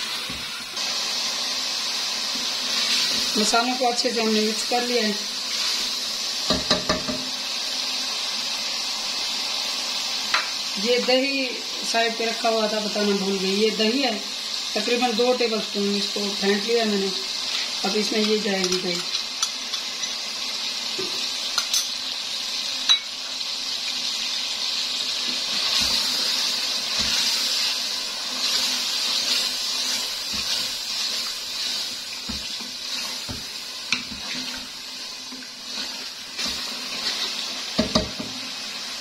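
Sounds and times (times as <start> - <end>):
food sizzling in a metal pot: 0.0 - 39.0.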